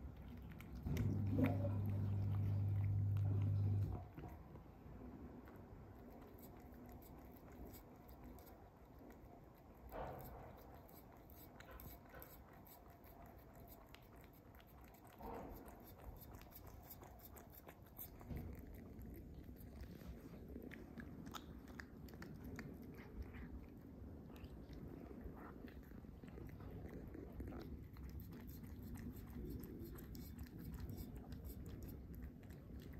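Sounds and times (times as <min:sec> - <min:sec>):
cat chewing and licking: 0:00.0 - 0:32.9.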